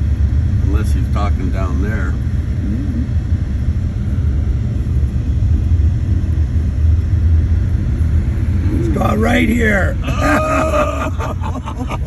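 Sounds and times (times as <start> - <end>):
car driving on snowy road: 0.0 - 12.0.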